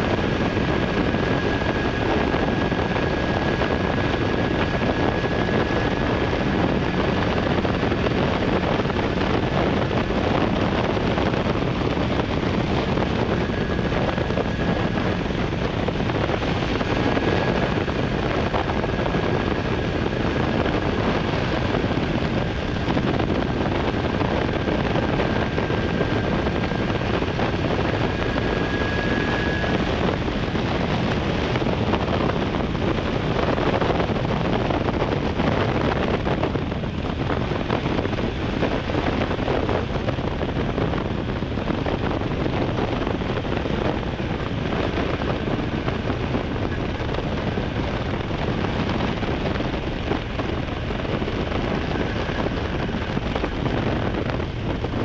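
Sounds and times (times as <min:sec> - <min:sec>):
wind rush over microphone: 0:00.0 - 0:55.0.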